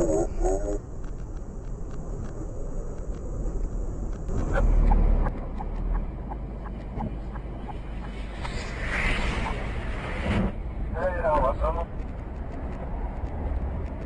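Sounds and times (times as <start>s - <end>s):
engine and road rumble: 0.0s - 14.0s.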